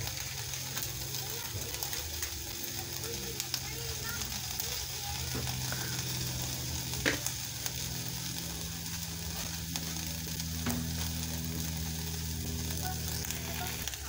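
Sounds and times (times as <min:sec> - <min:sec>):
beef sizzling in a pot: 0:00.0 - 0:14.0.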